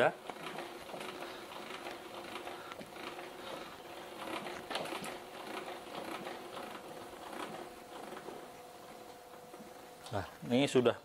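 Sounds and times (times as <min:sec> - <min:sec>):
crank clicking and rattling: 0:00.0 - 0:10.9.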